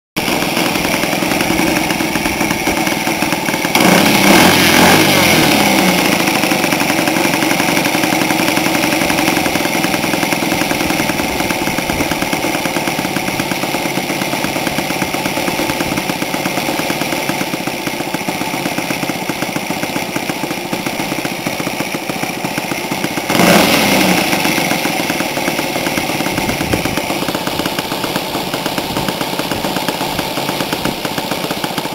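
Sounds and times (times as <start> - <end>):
model airplane engine idling: 0.2 - 31.9.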